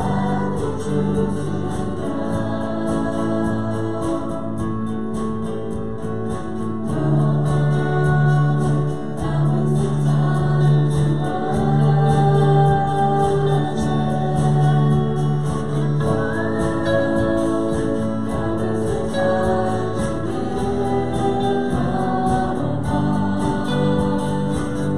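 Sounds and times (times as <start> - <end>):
congregation singing: 0.0 - 24.9
instruments accompanying: 0.0 - 24.9.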